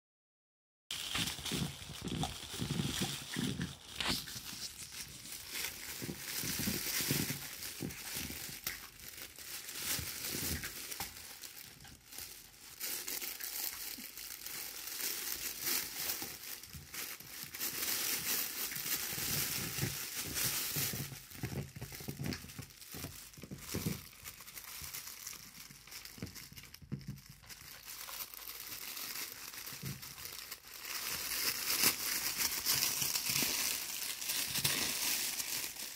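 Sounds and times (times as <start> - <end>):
pets crinkling and scratching: 0.9 - 35.9.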